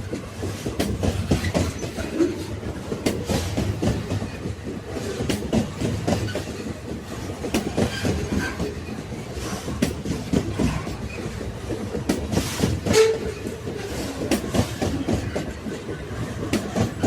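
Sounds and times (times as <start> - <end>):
train carriages rumbling: 0.0 - 17.0.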